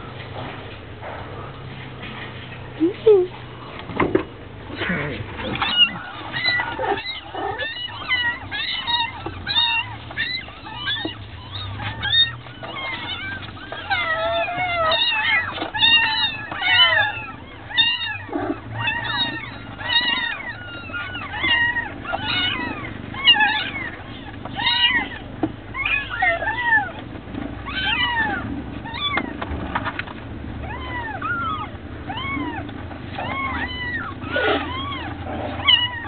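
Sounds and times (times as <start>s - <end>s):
kittens mewing: 4.7s - 36.0s.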